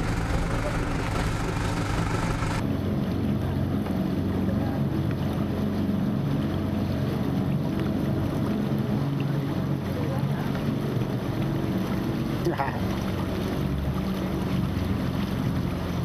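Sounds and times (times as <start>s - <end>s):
water rushing: 0.0s - 2.7s, 4.8s - 16.0s
boat motor running: 0.0s - 16.0s.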